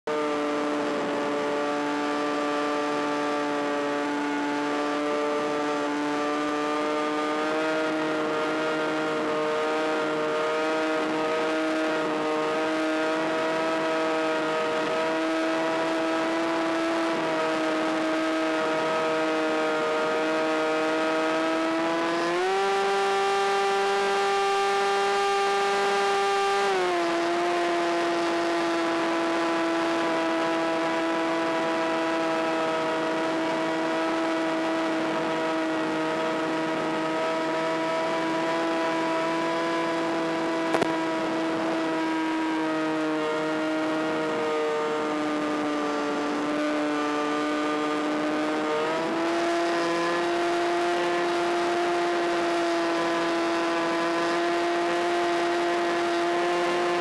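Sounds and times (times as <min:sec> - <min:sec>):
model plane motor whining: 0:00.2 - 0:57.0.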